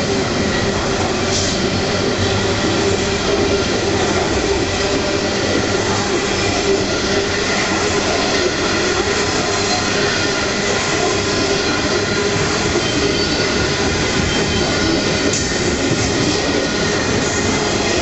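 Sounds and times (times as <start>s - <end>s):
steel wheels rolling on rail: 0.0s - 18.0s.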